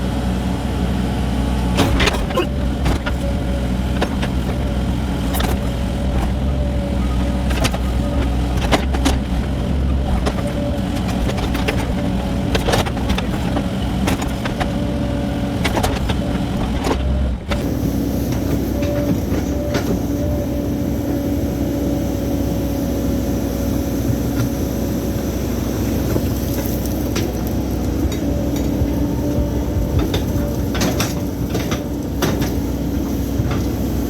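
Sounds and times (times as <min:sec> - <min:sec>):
diesel engine running: 0:00.0 - 0:34.0
hydraulic whine: 0:00.8 - 0:34.0.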